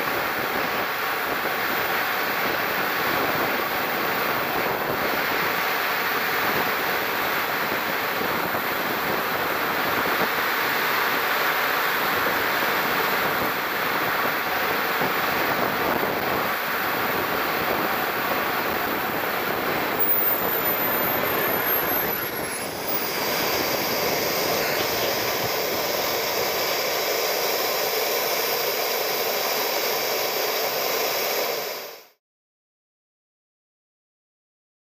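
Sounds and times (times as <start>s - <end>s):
model jet turbine whine: 0.0s - 32.2s
turbine spooling down: 0.0s - 32.2s.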